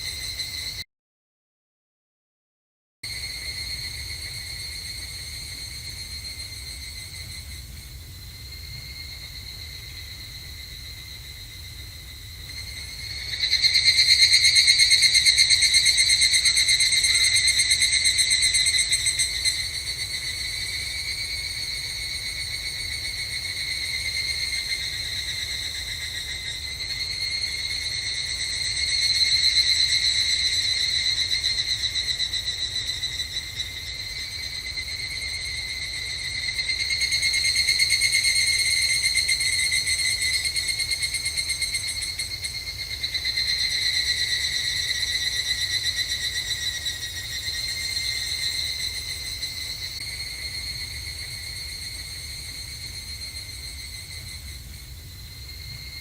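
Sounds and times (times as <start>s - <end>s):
cicadas chorus trilling: 0.0s - 0.8s, 3.1s - 56.0s.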